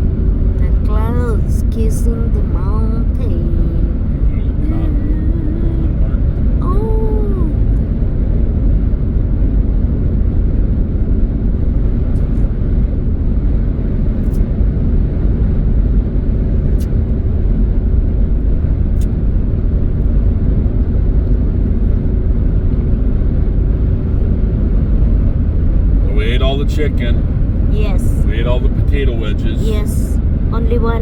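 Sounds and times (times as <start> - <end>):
car engine and tyres rumbling: 0.0 - 31.0
faint steady hum: 0.0 - 31.0.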